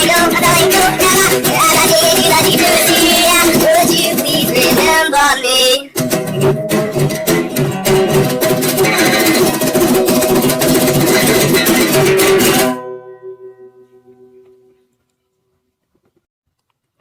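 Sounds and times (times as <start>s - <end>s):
strummed guitar chords: 0.0s - 14.8s.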